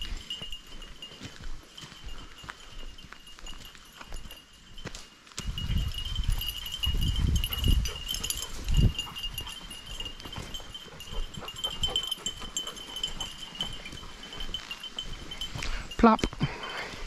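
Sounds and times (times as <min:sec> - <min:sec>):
dog collar bell jingling: 0:00.0 - 0:17.0.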